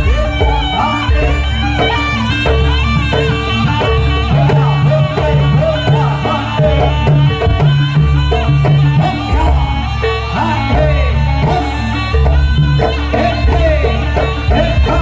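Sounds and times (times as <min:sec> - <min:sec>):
drums: 0:00.0 - 0:15.0
reed pipe melody: 0:00.0 - 0:15.0.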